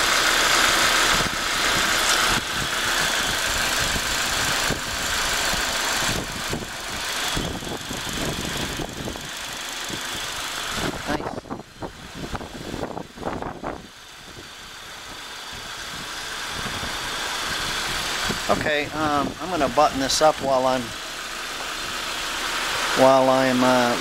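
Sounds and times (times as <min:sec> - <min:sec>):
car engine idling quietly: 0:00.0 - 0:24.0.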